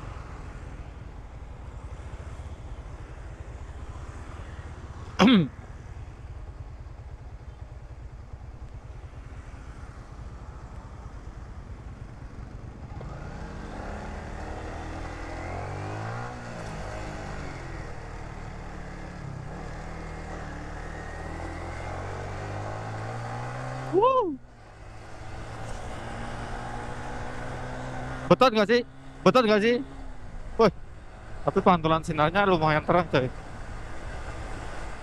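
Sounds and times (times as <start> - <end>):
motorcycle engine: 0.0 - 35.0.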